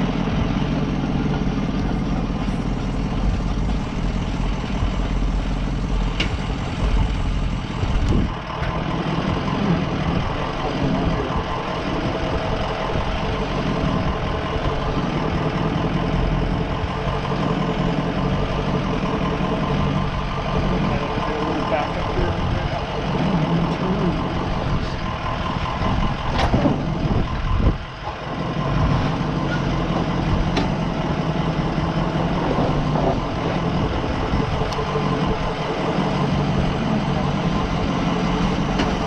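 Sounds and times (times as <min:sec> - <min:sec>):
van engine running: 0:00.0 - 0:39.0.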